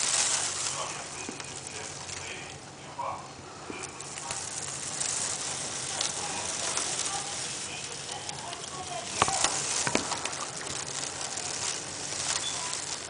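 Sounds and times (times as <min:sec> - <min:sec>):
crackling hiss: 0:00.0 - 0:13.0
faint voices: 0:00.0 - 0:13.0.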